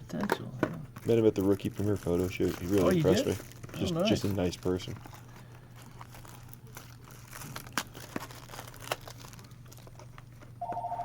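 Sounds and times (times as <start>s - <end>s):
card pack wrappers crinkling: 0.9s - 10.6s.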